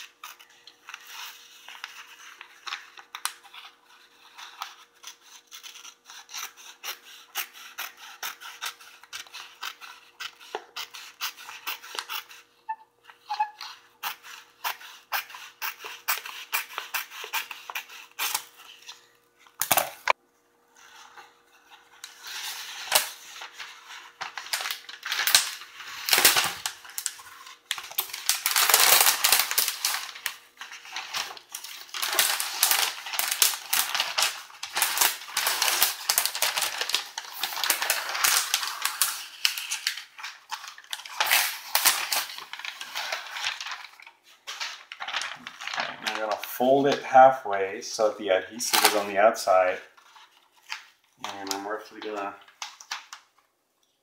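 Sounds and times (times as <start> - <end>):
contact paper crackling: 0.0 - 12.6, 20.8 - 47.1, 47.9 - 53.4.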